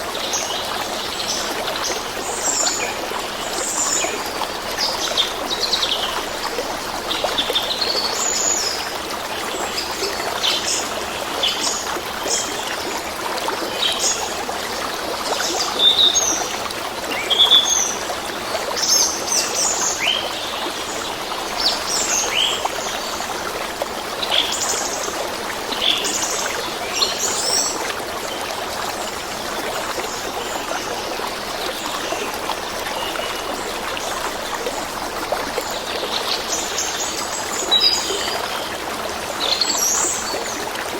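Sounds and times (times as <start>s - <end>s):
stream running water: 0.0s - 40.9s.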